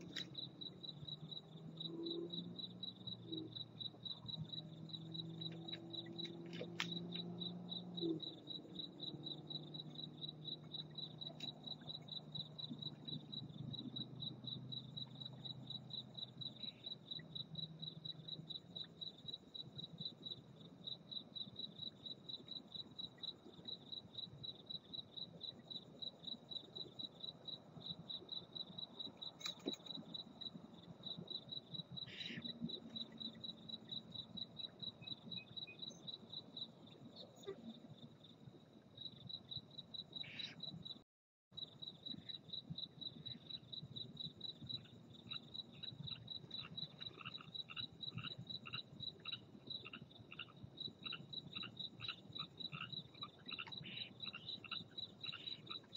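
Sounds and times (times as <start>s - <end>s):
cricket chirping: 0.0s - 41.0s, 41.6s - 55.9s.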